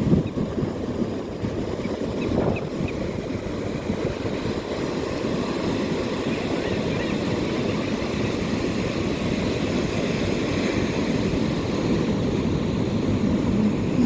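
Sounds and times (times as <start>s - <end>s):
ocean surf rushing: 0.0s - 14.0s
wind buffeting microphone: 0.0s - 14.0s.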